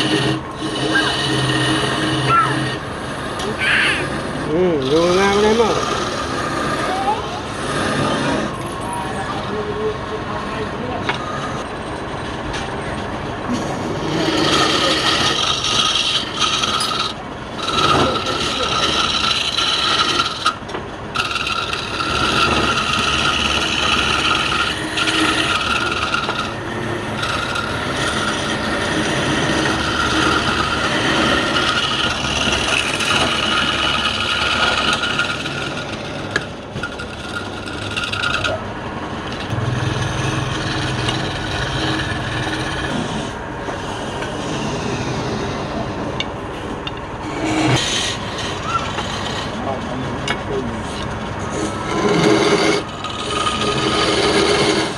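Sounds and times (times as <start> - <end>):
wood lathe spinning: 0.0 - 54.9.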